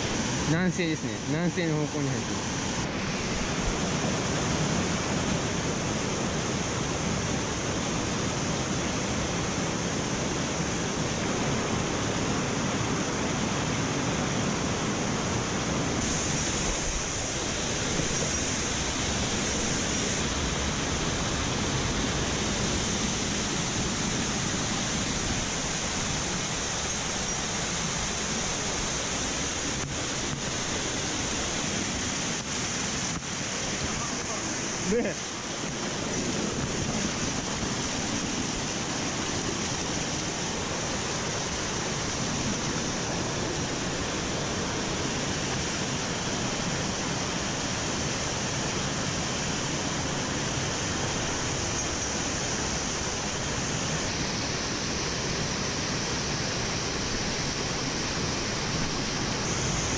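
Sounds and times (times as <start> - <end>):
mountain stream rushing: 0.0 - 59.9.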